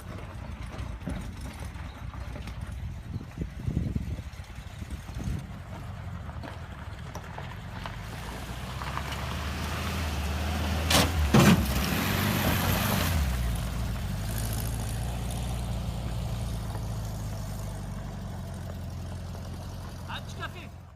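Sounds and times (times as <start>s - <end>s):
van engine humming: 0.0s - 20.9s.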